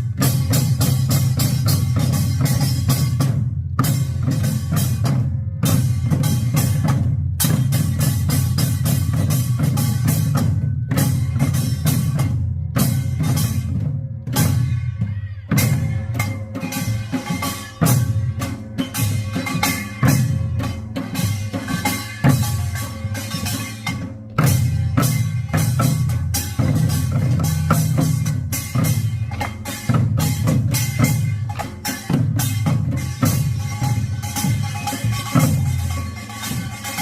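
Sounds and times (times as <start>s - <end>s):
deep barrel drum beats: 0.0s - 37.0s
sharp metal percussion strikes: 0.0s - 37.0s.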